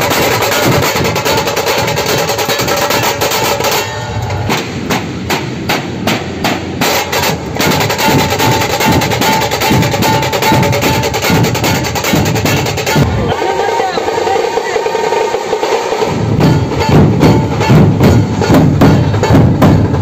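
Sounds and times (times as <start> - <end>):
barrel drums beaten with sticks: 0.0 - 20.0
tasha drums: 0.0 - 20.0.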